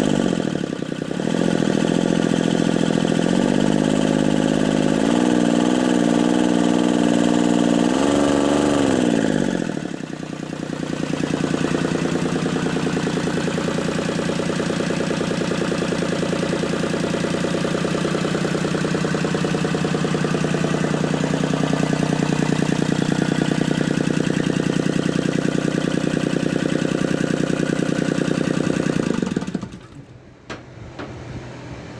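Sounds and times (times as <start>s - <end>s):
diesel engine running and idling: 0.0s - 30.5s.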